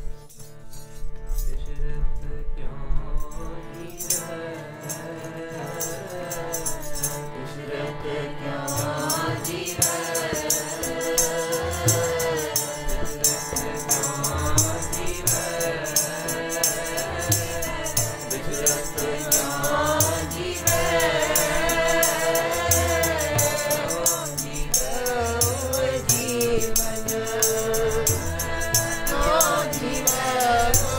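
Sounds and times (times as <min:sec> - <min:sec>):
harmonium: 0:00.0 - 0:30.9
high jingling percussion: 0:03.2 - 0:07.9, 0:08.6 - 0:30.9
group of voices singing: 0:03.4 - 0:30.9
tabla: 0:04.0 - 0:30.9.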